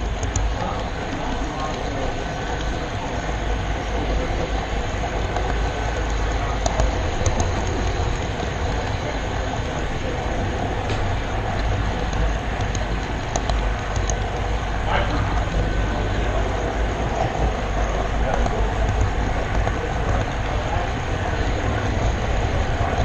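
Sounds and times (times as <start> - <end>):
wheels rumbling on rails: 0.0 - 23.0.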